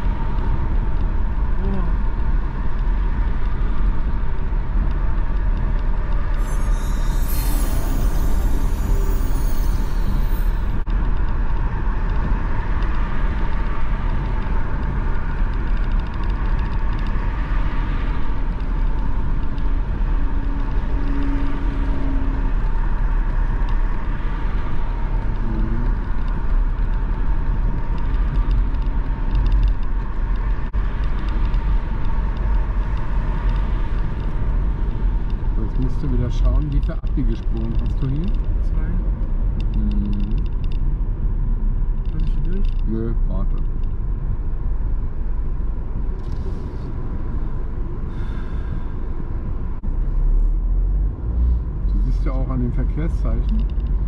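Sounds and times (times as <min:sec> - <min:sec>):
tyres rumbling on road: 0:00.0 - 0:06.4, 0:10.7 - 0:54.0
car engine noise: 0:00.0 - 0:54.0.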